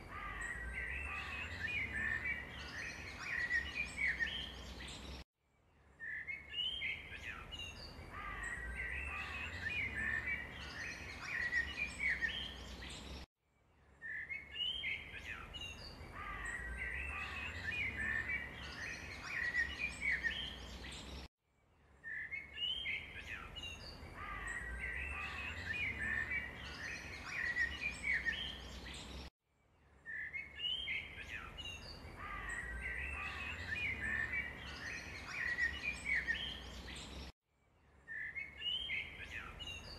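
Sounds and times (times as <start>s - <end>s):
birds chirping: 0.0s - 5.2s, 6.0s - 13.3s, 14.0s - 21.3s, 22.0s - 29.3s, 30.0s - 37.3s, 38.0s - 39.9s.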